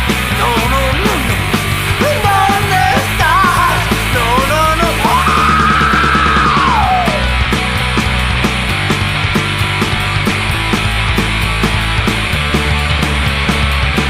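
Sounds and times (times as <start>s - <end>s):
rock band playing loudly: 0.0s - 14.0s.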